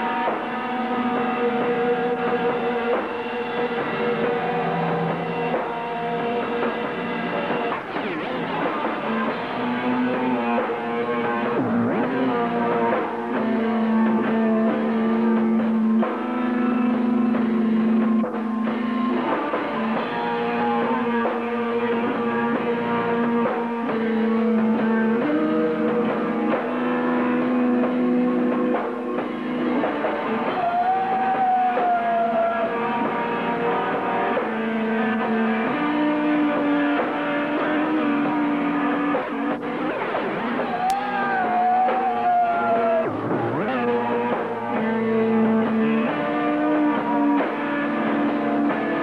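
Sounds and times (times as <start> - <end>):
rock band playing: 0.0 - 49.0
sustained guitar notes: 0.0 - 49.0.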